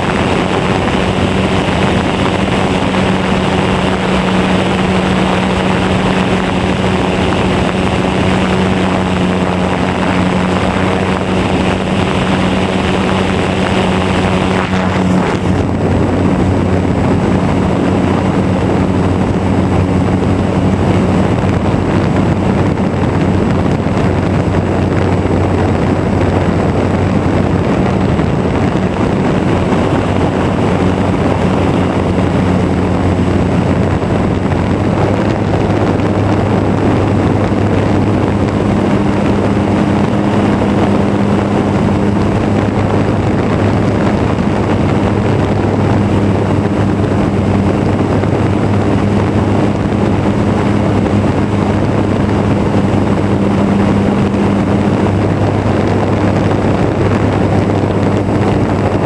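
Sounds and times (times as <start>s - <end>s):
air rushing past: 0.0s - 59.0s
model airplane motor and propeller: 0.0s - 59.0s.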